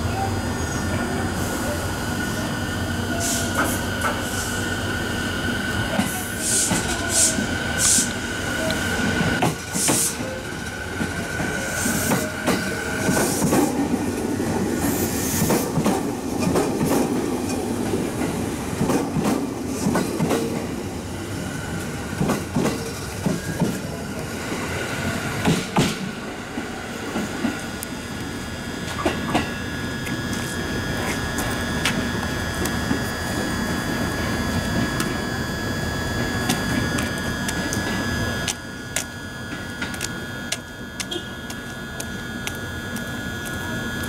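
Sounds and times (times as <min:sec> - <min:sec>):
train high whine: 0:00.0 - 0:44.0.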